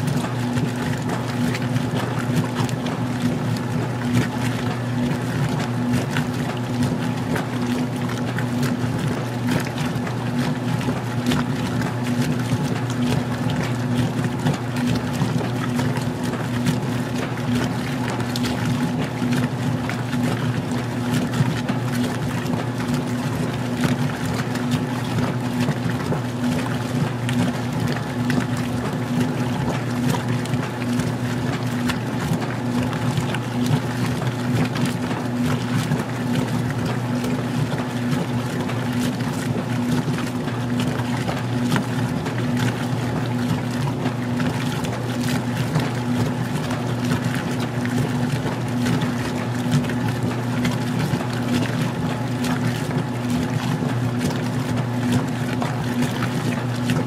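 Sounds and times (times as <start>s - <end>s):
washer motor humming: 0.0s - 57.0s
water churning in washer tub: 0.0s - 57.0s.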